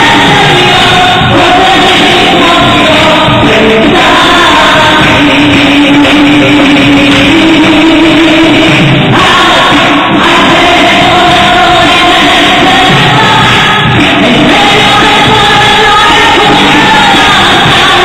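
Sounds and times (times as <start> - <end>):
worshippers singing together: 0.0 - 18.0.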